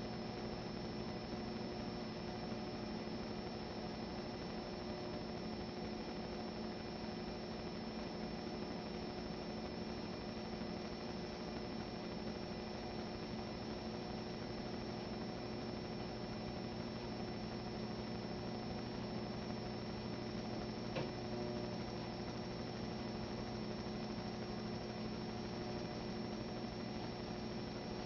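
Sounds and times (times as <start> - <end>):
electrical mains hum: 0.0 - 28.0
faint high whine: 0.0 - 28.0.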